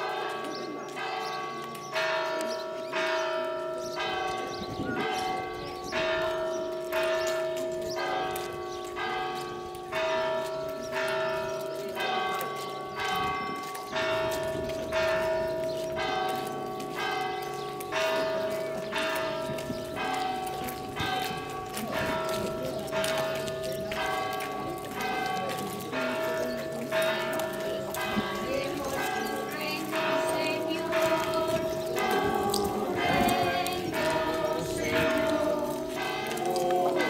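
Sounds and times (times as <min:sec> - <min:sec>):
church bells ringing: 0:00.0 - 0:37.0.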